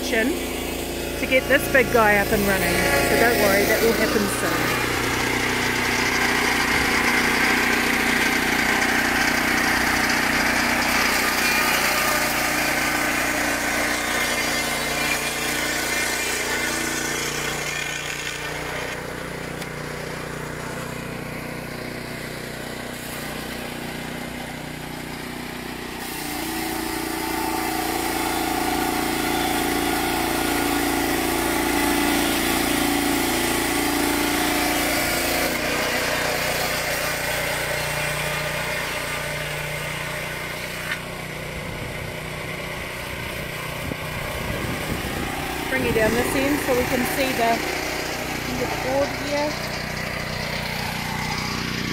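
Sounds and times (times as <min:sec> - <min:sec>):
saw cutting board: 0:00.0 - 0:51.9
sawmill engine running: 0:00.0 - 0:51.9.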